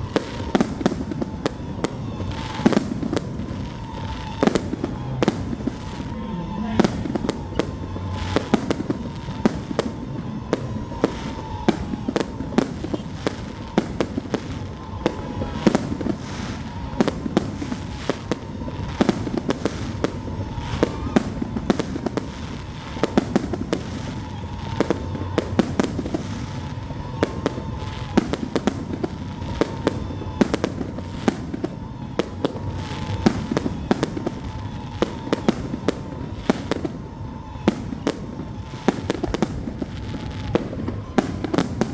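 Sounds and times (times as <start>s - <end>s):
firework bangs and crackling: 0.0s - 41.9s
loud firework booms: 0.0s - 41.9s.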